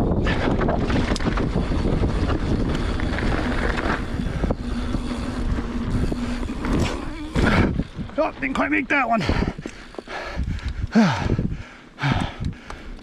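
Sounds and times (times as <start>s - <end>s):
tyres rolling on dirt: 0.0s - 10.9s
wind over microphone: 0.0s - 13.0s.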